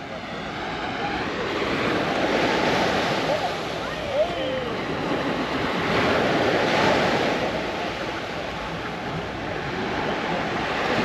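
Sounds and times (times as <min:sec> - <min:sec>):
gentle sea waves washing: 0:00.0 - 0:11.0.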